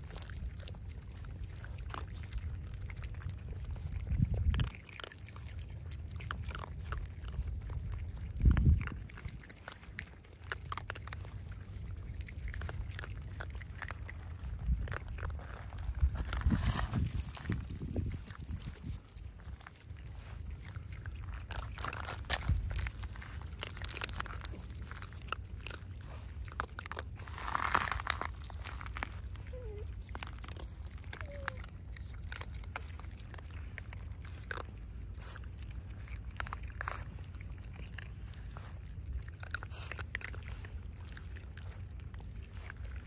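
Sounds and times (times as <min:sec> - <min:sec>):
animals crunching food pellets: 0:00.0 - 0:43.0
steady low rumble: 0:00.0 - 0:43.0.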